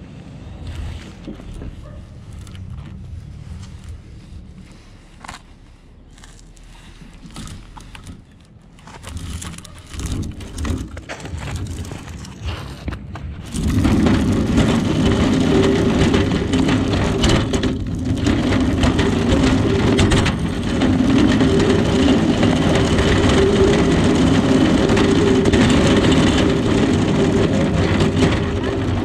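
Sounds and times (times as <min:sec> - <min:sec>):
low droning hum: 0:00.0 - 0:29.0
vehicle engine and road noise: 0:00.0 - 0:29.0.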